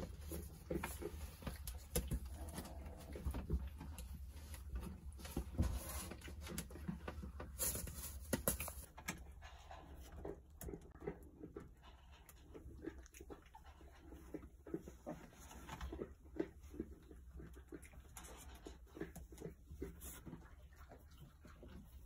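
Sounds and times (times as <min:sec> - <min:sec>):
puppy noises: 0:00.0 - 0:07.9, 0:08.8 - 0:22.0.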